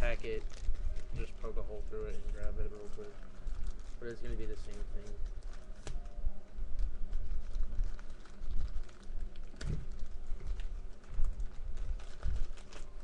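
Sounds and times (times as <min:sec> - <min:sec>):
plastic packet crinkling and clicking: 0:00.0 - 0:13.0.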